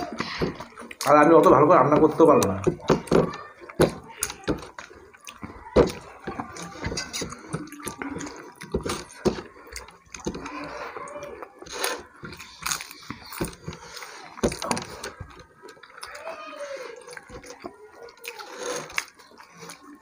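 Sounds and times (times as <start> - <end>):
fingers mixing rice on plates: 0.0 - 20.0.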